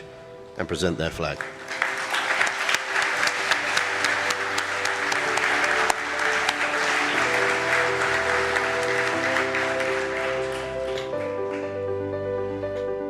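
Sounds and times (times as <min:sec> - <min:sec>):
audience applauding: 0:01.4 - 0:12.1.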